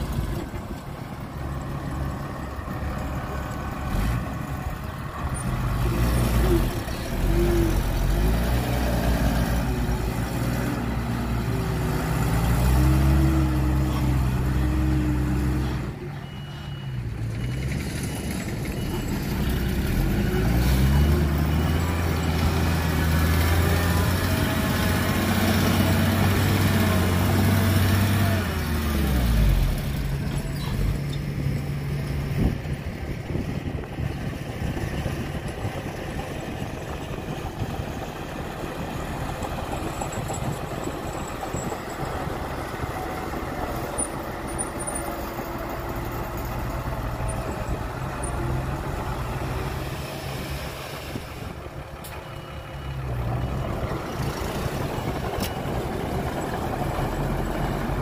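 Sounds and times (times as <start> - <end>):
dump truck diesel engine revving: 0.0 - 58.0.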